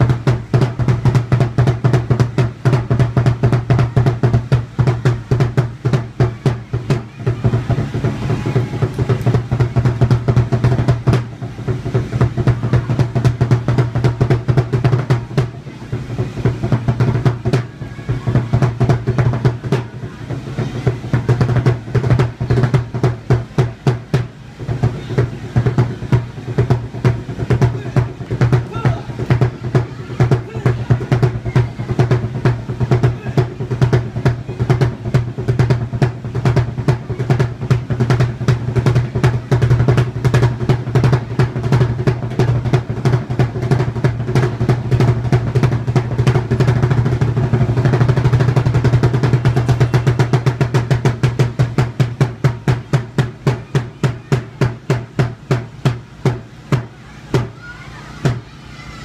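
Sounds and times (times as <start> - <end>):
taiko drum strikes: 0.0 - 57.6.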